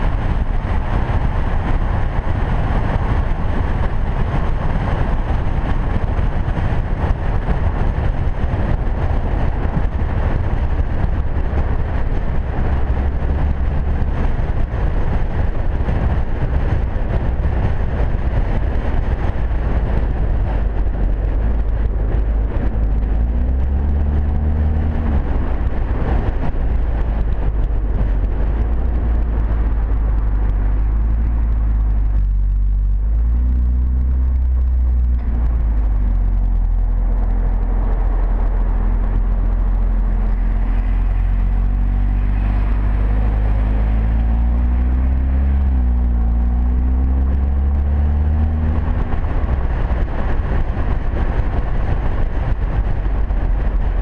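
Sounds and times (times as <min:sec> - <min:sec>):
car engine and exhaust rumble: 0:00.0 - 0:54.0
wind noise: 0:00.0 - 0:54.0.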